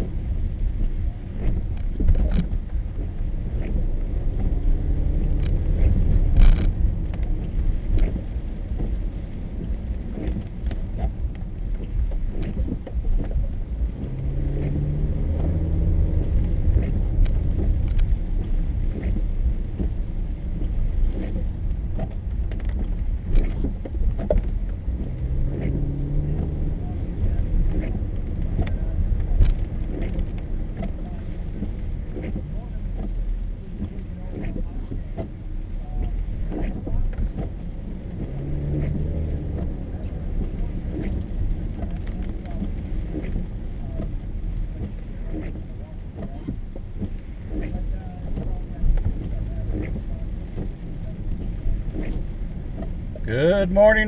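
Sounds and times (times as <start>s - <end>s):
car road and engine rumble: 0.0s - 54.0s
light clicks and taps: 0.2s - 53.2s.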